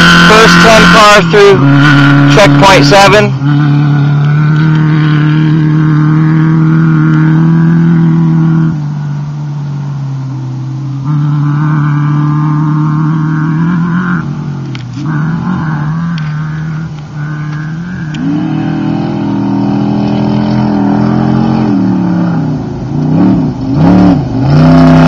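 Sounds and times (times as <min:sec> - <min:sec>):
race car engine running: 0:00.0 - 0:25.0.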